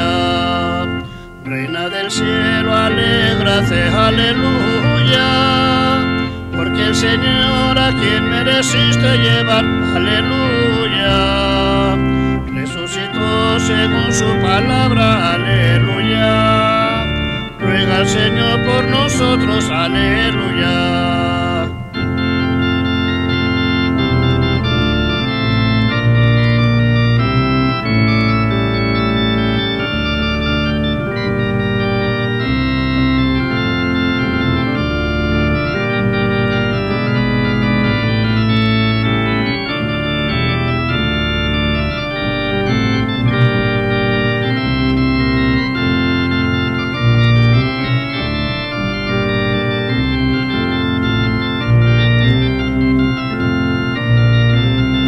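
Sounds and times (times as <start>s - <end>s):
bass line: 0.0s - 55.0s
organ playing held chords: 0.0s - 55.0s.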